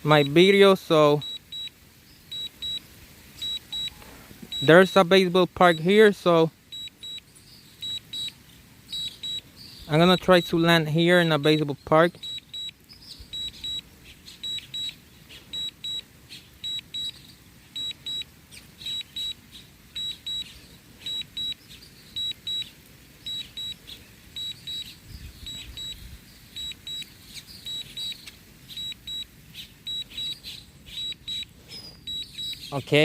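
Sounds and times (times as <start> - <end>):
short high warning beeps: 1.1 - 1.7, 2.3 - 17.2, 17.8 - 21.6, 22.2 - 22.7, 23.3 - 23.8, 24.4 - 27.1, 27.7 - 29.3, 29.9 - 33.0.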